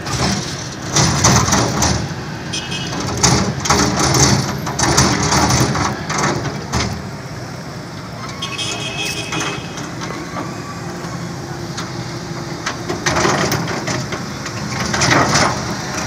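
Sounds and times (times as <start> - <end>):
excavator engine rumbling: 0.0 - 16.0.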